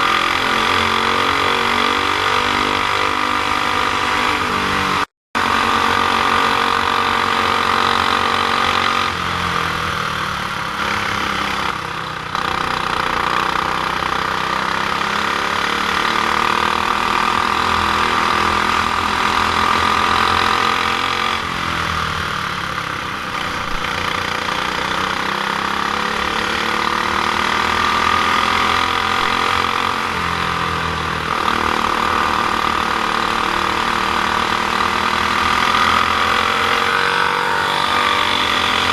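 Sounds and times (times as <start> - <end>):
kart engine running hard: 0.0 - 38.9.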